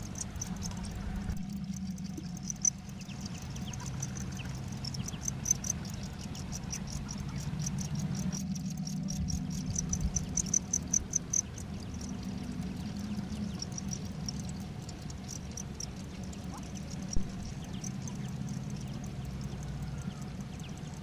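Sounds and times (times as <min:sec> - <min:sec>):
crickets chirping: 0:00.0 - 0:21.0
steady low hum: 0:00.0 - 0:21.0.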